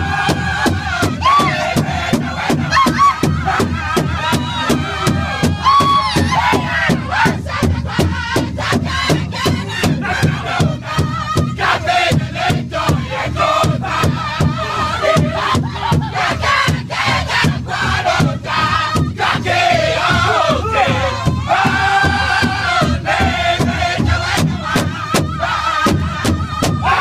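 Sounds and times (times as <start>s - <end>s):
group singing in high voices: 0.0s - 27.0s
large drum beating: 0.0s - 27.0s.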